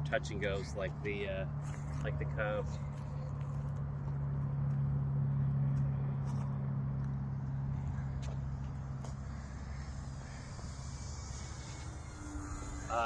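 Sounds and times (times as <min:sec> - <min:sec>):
model airplane motor and propeller droning: 0:00.0 - 0:13.0.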